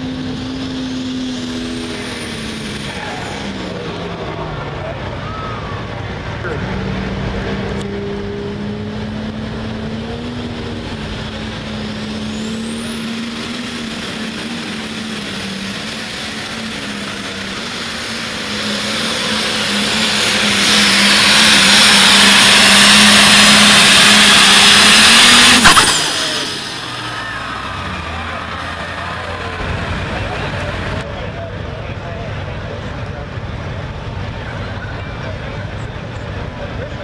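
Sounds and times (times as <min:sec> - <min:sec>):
diesel tractor engine revving: 0:00.0 - 0:37.0
high turbo whine: 0:00.0 - 0:37.0.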